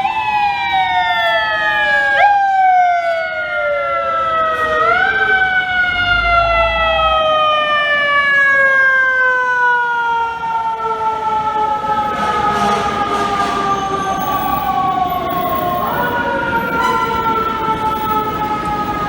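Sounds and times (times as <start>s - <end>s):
fire truck mechanical siren: 0.0s - 19.0s.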